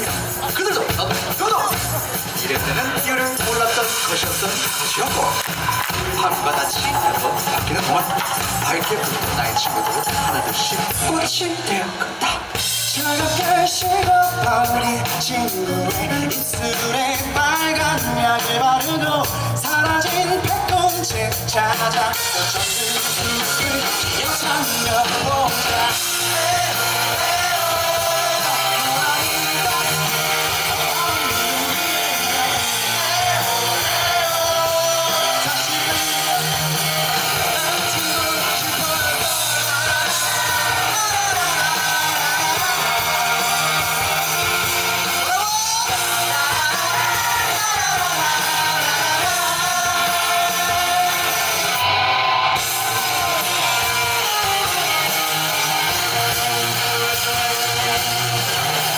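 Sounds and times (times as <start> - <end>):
electric guitar: 0.0 - 58.9
person singing: 0.0 - 58.9
rock band playing live: 0.0 - 58.9.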